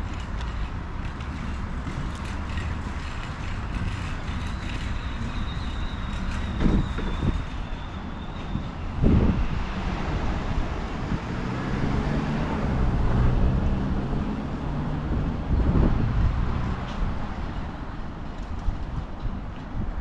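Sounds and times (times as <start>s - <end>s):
vehicle engine hum passing: 0.0s - 19.4s
low rumble of road noise: 0.0s - 20.0s.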